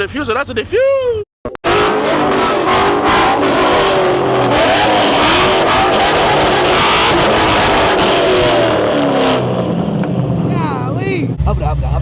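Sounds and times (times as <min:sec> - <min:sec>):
car engine revving hard: 0:01.6 - 0:11.4.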